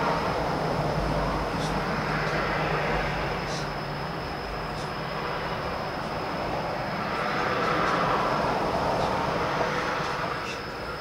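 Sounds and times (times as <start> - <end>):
steady high tone: 0.0 - 11.0
vehicle passing: 0.0 - 11.0.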